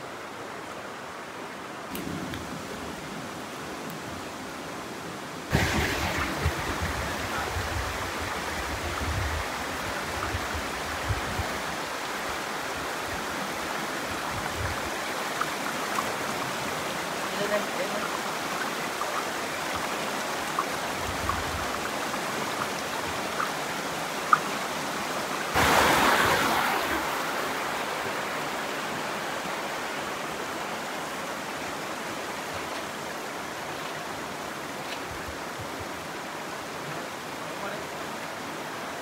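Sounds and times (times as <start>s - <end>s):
stream rushing over rocks: 0.0s - 39.0s.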